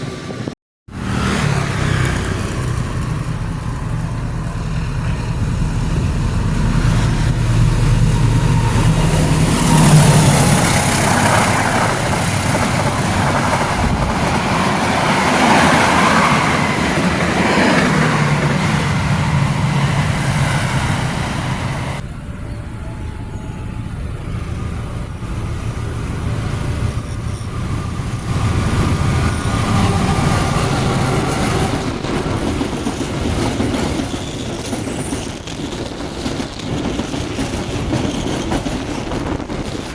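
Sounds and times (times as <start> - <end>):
carriages rumbling on rails: 0.0 - 39.9
locomotive diesel engine: 0.0 - 39.9.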